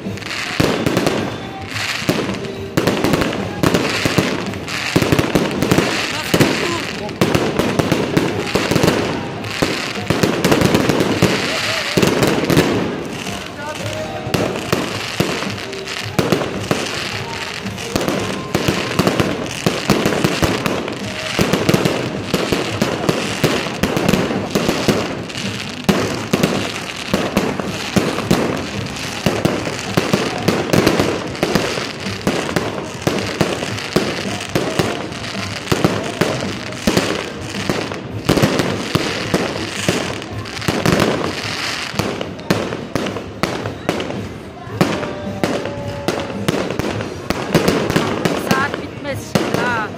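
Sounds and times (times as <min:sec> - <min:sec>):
fireworks bangs and pops: 0:00.0 - 0:49.9
music playing: 0:00.0 - 0:49.9.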